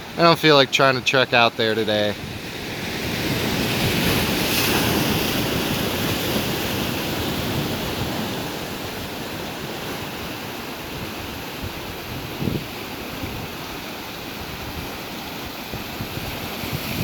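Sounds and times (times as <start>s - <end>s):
wind on microphone: 2.2s - 17.0s.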